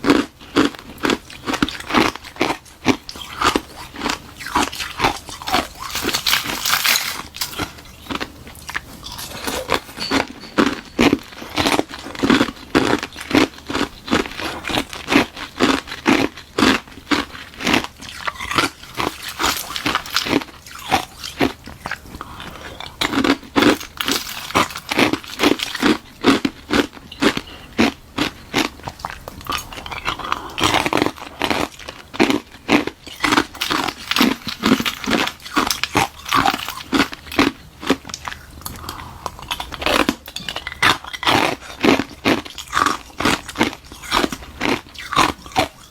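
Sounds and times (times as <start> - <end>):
crunching and chewing ice: 0.0 - 45.9.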